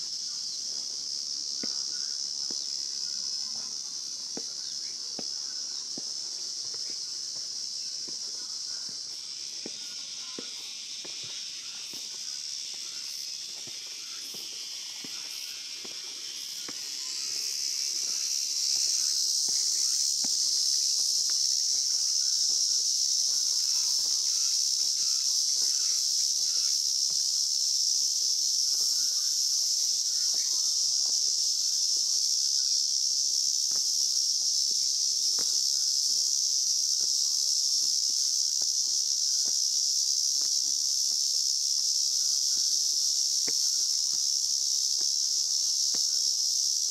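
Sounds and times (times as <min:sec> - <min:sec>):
high-pitched insect buzzing: 0:00.0 - 0:46.9
footsteps on stone steps: 0:00.7 - 0:03.0, 0:03.7 - 0:27.4, 0:28.6 - 0:32.1, 0:33.7 - 0:46.2.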